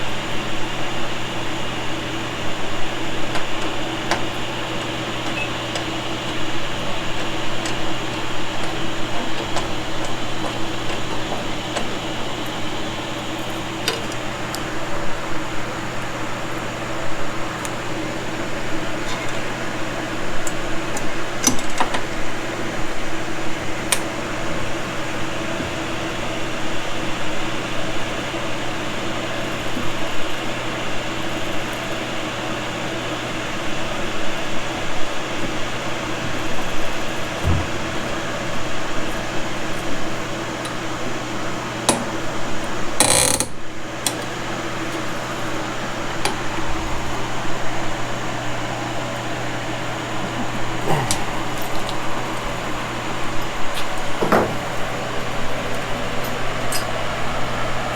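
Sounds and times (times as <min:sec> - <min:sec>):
steady mechanical hum: 0:00.0 - 0:57.9.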